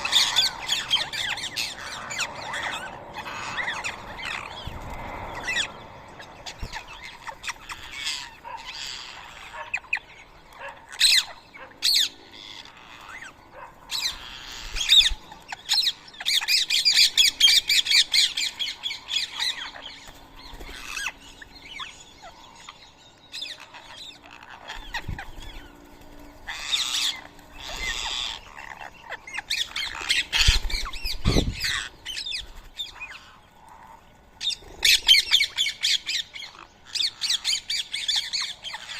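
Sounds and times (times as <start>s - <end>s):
parakeets squawking: 0.0s - 38.9s.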